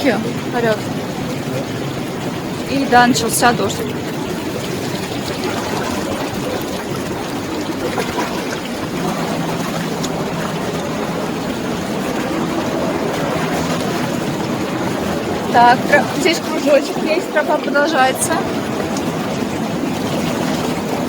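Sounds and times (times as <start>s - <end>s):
distant motorboat engine drone: 0.0s - 21.0s
water rushing: 0.0s - 21.0s.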